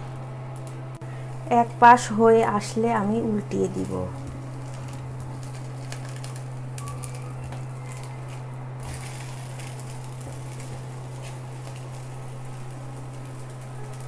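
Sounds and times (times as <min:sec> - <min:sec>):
faint frying sizzle: 0:00.0 - 0:14.0
steady low hum: 0:00.0 - 0:14.0.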